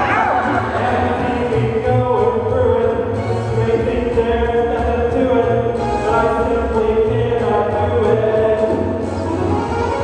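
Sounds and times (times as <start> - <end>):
steady low bass line: 0.0 - 10.0.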